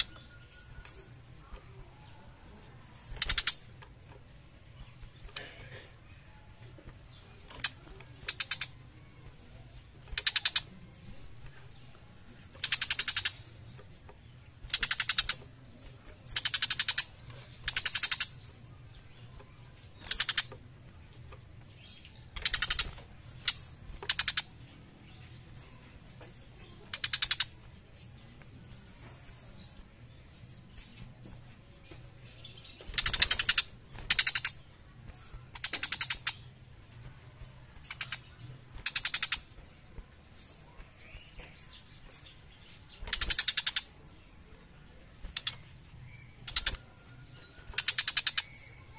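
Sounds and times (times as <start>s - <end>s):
bird harsh rasping chatter: 0.0s - 44.4s, 45.2s - 48.9s.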